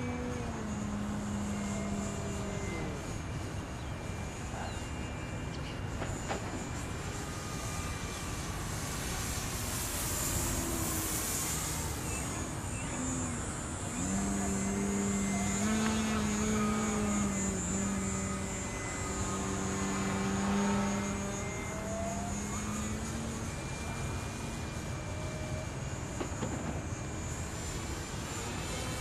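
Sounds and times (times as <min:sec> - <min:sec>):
model airplane motor droning: 0:00.0 - 0:29.0.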